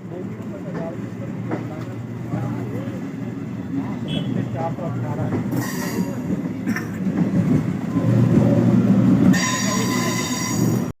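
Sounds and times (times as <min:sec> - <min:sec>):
electric train rumbling past: 0:00.0 - 0:10.9.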